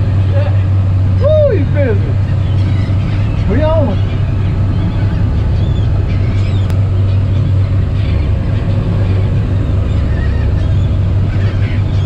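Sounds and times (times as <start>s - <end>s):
boat engine humming: 0.0s - 12.0s
gulls calling: 0.0s - 12.0s.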